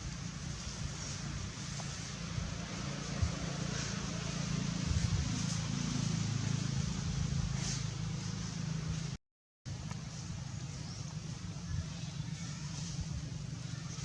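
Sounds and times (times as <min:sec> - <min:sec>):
low engine hum: 0:00.0 - 0:14.0
outdoor background noise: 0:00.0 - 0:14.0.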